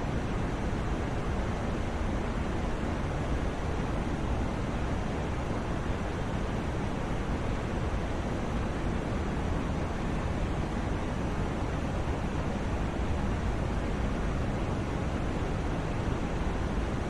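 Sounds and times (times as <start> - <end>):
white noise hiss: 0.0 - 17.0.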